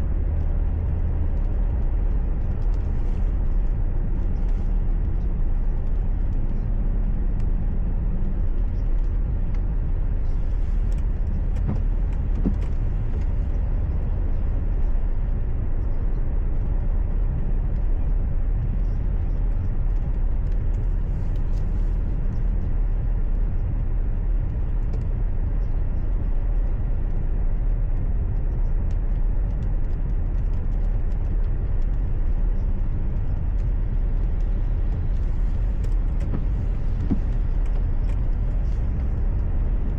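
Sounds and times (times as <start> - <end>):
car engine rumble: 0.0 - 39.9
road noise: 0.0 - 39.9.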